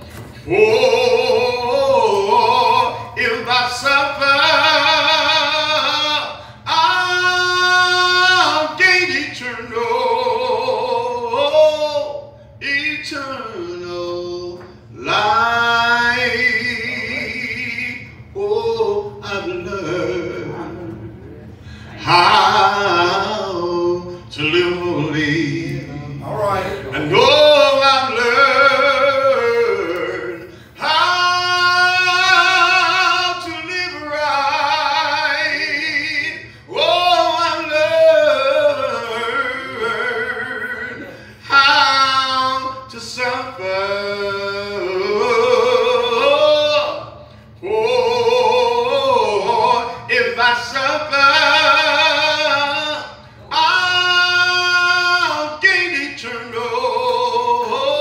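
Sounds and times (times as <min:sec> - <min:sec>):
person singing gospel song: 0:00.0 - 0:58.0.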